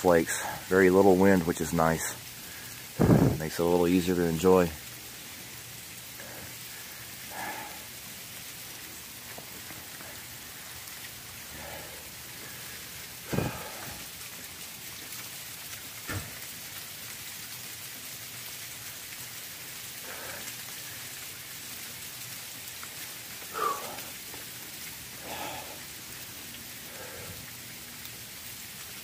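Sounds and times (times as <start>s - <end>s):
wet snow and sleet falling: 0.0s - 29.0s.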